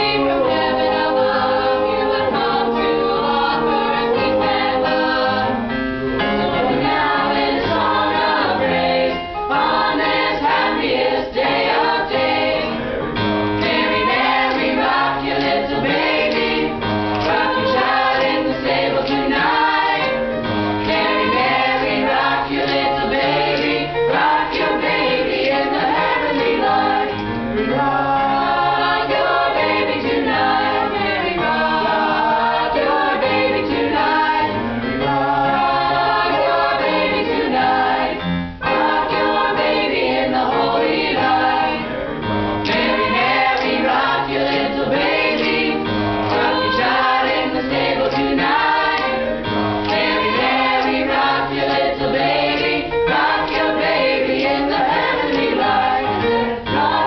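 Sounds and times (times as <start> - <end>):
choir singing a carol: 0.0 - 57.0.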